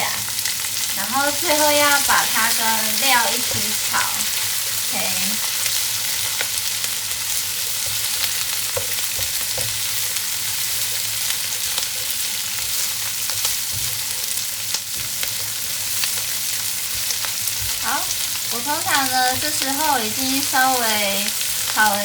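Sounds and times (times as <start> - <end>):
oil popping and crackling: 0.0 - 22.0
vegetables sizzling in oil: 0.0 - 22.0.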